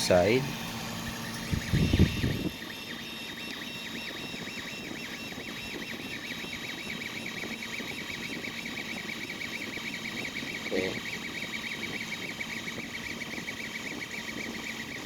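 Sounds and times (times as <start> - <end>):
fans humming: 0.0 - 15.0
stepper motors whining: 0.0 - 15.0.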